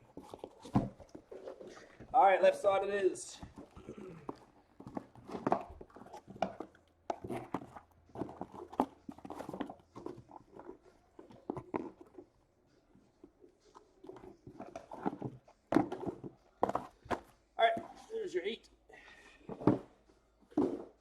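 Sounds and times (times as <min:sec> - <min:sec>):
cardboard boxes rustling and scraping: 0:00.0 - 0:12.4, 0:13.0 - 0:18.2, 0:19.4 - 0:21.0.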